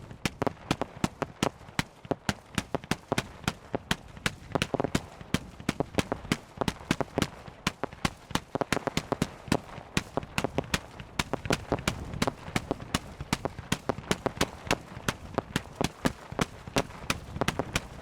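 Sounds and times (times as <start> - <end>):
fireworks banging: 0.0 - 18.0.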